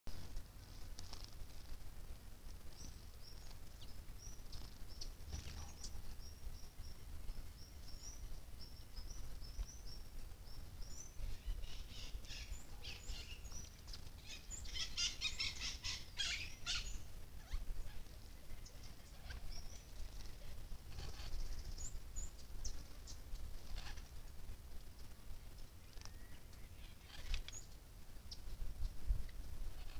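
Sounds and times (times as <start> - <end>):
low steady rumble: 0.1 - 29.9
songbirds chip notes: 0.1 - 29.9.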